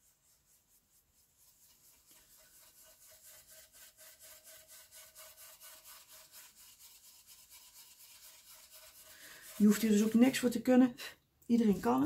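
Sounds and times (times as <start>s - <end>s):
brush scrubbing on paper: 0.0s - 10.6s.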